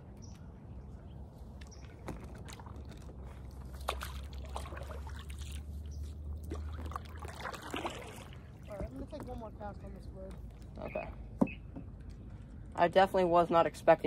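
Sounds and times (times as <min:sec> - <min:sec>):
water lapping around dock: 0:00.0 - 0:14.0.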